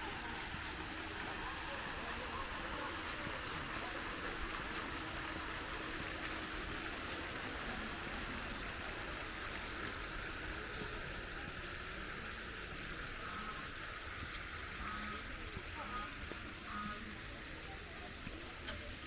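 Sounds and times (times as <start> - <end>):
fountain water splashing: 0.0 - 19.0.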